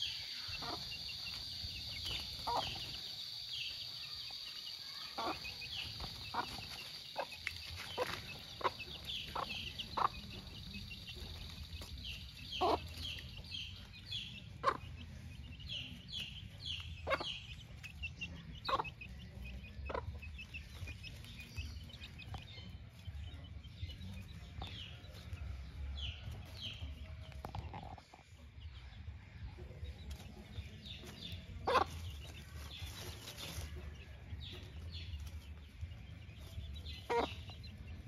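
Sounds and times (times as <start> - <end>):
hen clucking: 0.0 - 3.4, 5.0 - 25.5, 30.3 - 38.0
chicks peeping: 0.0 - 38.0.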